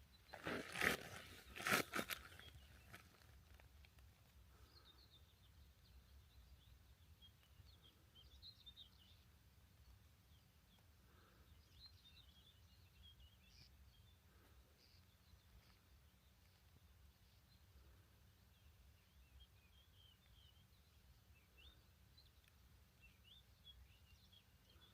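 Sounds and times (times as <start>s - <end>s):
faint bird chirps: 4.5s - 24.9s.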